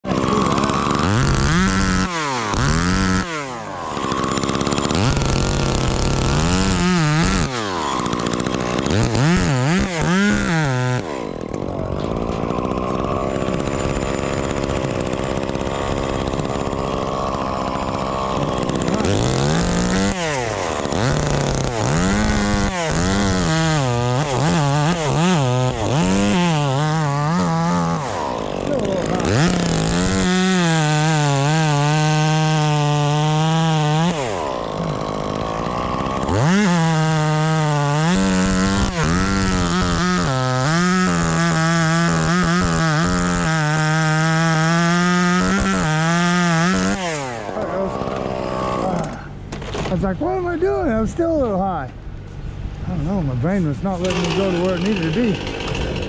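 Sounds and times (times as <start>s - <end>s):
chainsaw engine revving: 0.0s - 52.0s, 52.8s - 56.0s.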